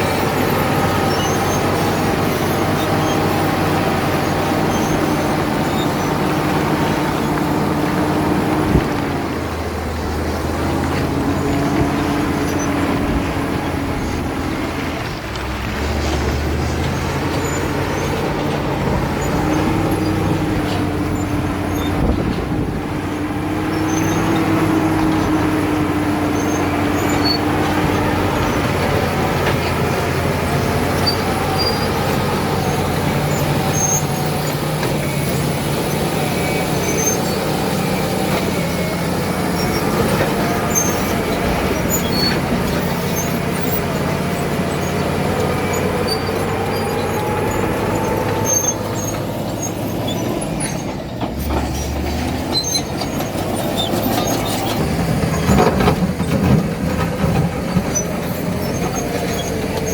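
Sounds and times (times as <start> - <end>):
bulldozer diesel engine under load: 0.0 - 59.9
steel tracks squealing and clanking: 0.0 - 59.9.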